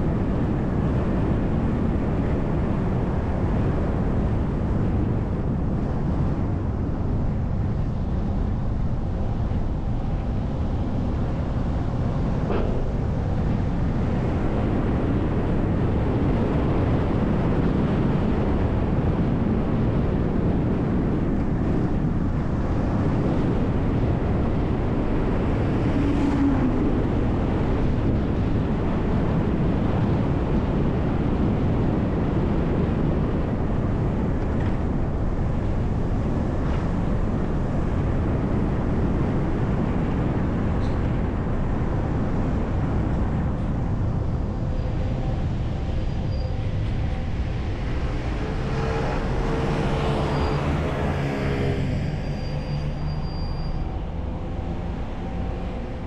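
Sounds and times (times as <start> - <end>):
bus engine and tyres rumbling: 0.0 - 56.0
wind noise on microphone: 0.0 - 56.0.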